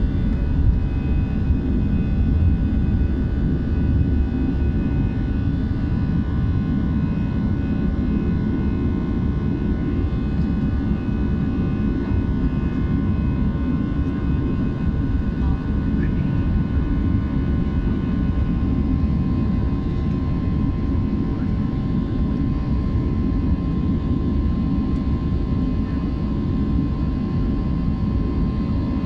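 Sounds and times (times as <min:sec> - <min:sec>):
jet engine rumble in cabin: 0:00.0 - 0:29.0.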